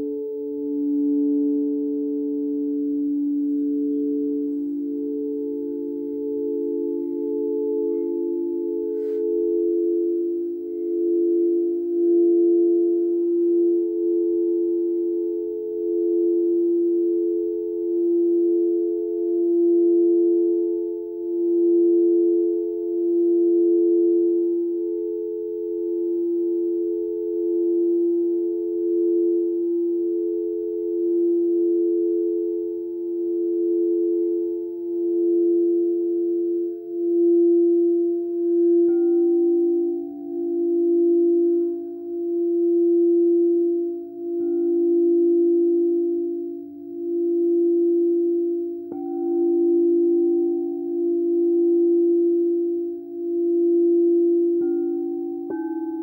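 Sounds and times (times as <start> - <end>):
singing bowls ringing: 0.0 - 56.0.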